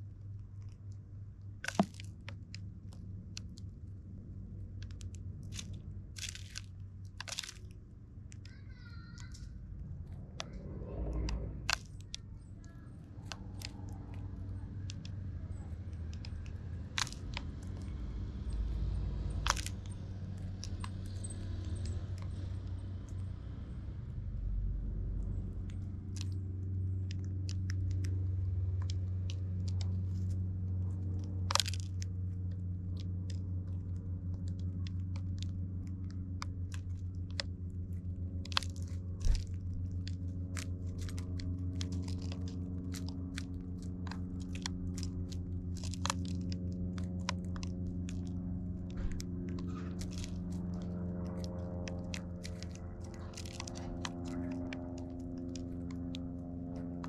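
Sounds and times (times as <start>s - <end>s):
steady low hum: 0.0s - 57.0s
seeds cracking: 0.1s - 9.5s, 10.2s - 23.2s, 25.2s - 57.0s.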